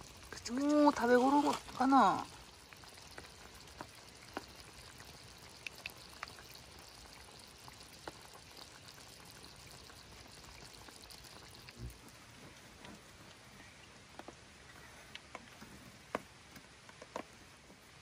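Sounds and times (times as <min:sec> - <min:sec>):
oil sizzling with pops: 0:00.0 - 0:15.5.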